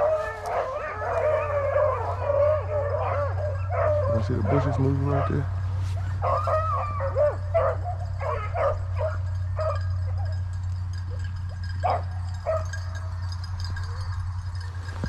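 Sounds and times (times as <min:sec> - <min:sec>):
dogs baying and yelping: 0:00.0 - 0:15.0.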